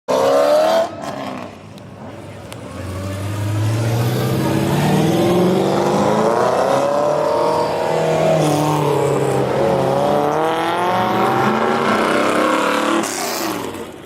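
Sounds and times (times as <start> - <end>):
car engines revving: 0.1 - 14.0.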